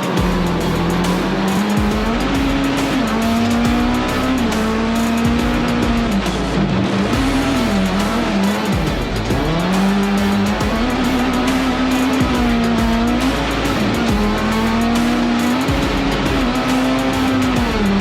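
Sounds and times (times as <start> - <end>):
race car engine at full throttle: 0.0 - 18.0.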